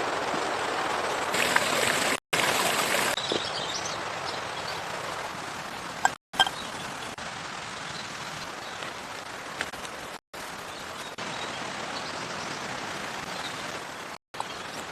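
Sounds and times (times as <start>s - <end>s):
steady outdoor hiss: 0.0s - 14.9s.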